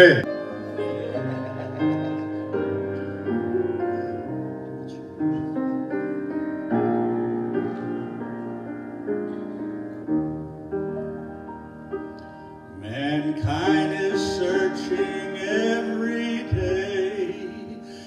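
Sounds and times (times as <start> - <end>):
slow piano melody: 0.0 - 18.0.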